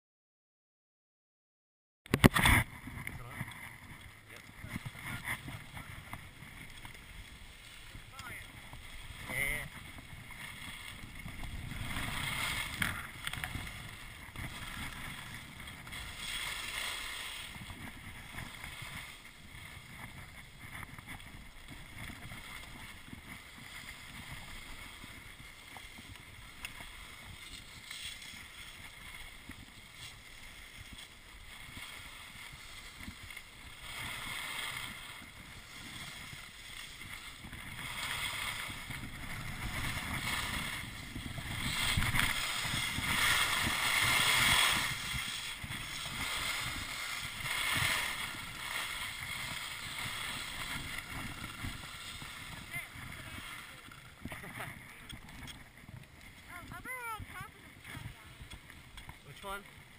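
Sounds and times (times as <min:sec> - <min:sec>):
wind buffeting microphone: 0:02.1 - 0:59.9
skis scraping over snow: 0:02.2 - 0:59.9.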